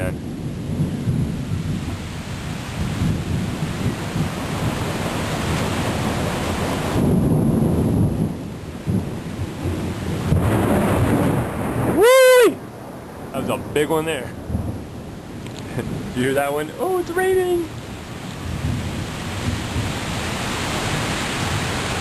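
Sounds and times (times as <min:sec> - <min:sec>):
heavy rain pouring: 0:00.0 - 0:22.0
rolling thunder: 0:00.0 - 0:22.0.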